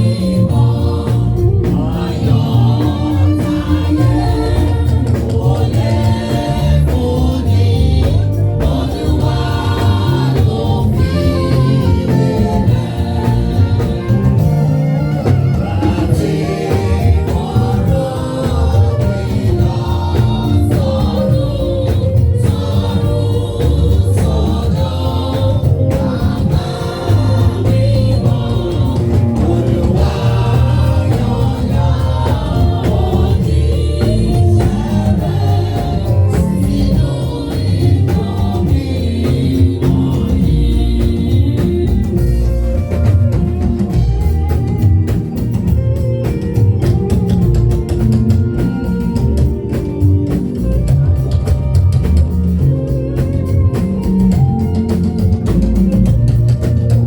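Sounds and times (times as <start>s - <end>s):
gospel group singing with band: 0.0s - 57.0s
steady bass: 0.0s - 57.0s.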